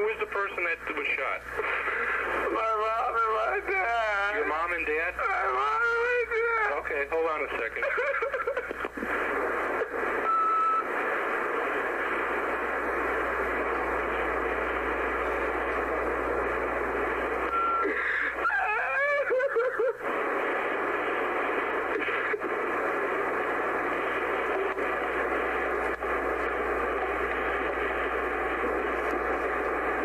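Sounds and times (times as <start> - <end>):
telephone line hiss: 0.0 - 30.0.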